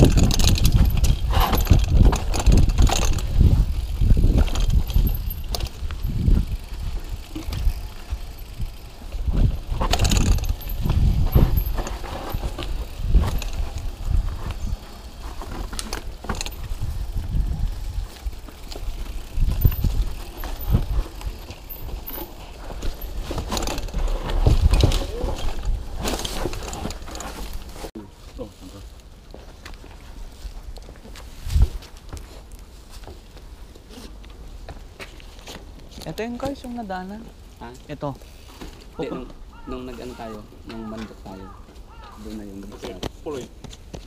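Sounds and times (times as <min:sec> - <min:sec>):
bike knocking and rattling: 0:00.0 - 0:27.9, 0:29.3 - 0:44.0
bike tyres rumbling on dirt: 0:00.0 - 0:44.0.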